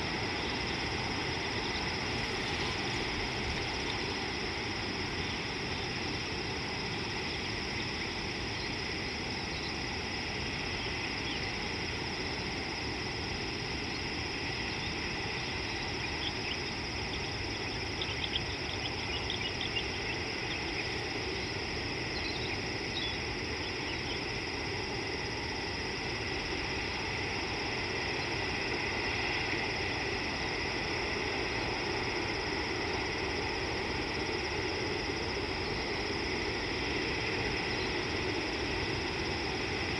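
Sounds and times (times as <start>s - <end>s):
constant outdoor hiss: 0.0s - 39.9s
high insect drone: 0.0s - 39.9s.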